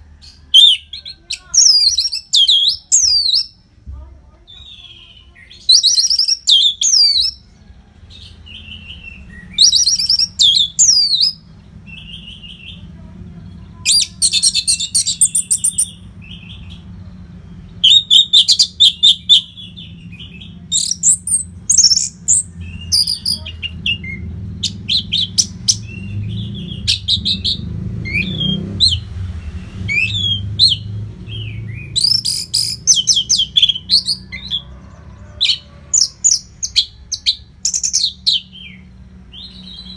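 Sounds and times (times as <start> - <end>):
thrush singing: 4.7 - 39.9
steady low hum: 7.3 - 39.8.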